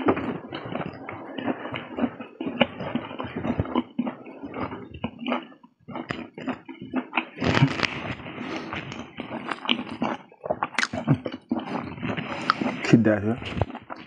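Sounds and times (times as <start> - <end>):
fingers scraping food on plate: 0.0 - 14.0
wet chewing and lip smacks: 0.0 - 14.0.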